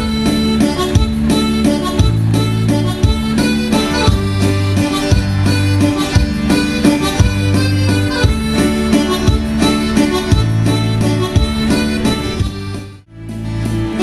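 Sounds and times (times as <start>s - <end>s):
instrumental dance music: 0.0s - 14.0s.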